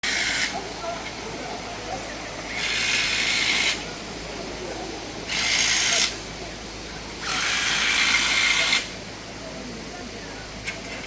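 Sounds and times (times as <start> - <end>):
cicadas buzzing: 0.0 - 10.6
background hiss: 0.0 - 11.0.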